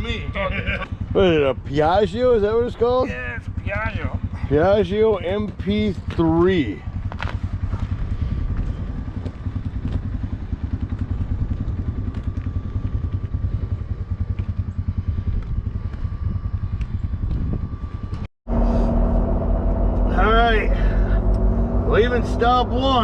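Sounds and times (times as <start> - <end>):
scooter engine idling: 0.0 - 19.0
steady engine drone: 0.0 - 23.0.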